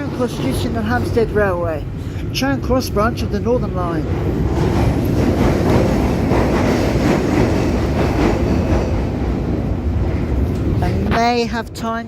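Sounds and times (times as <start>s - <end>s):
train rumbling through tunnel: 0.0s - 12.0s.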